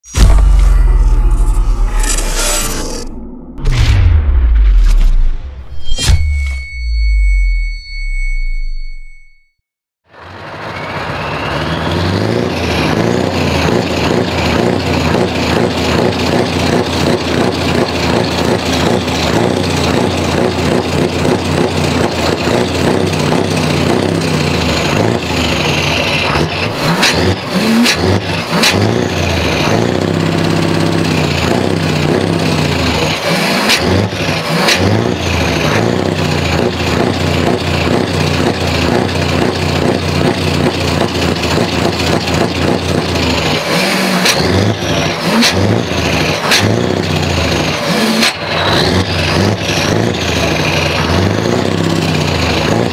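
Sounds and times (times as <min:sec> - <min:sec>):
diesel truck engine revving: 0:10.1 - 0:52.9.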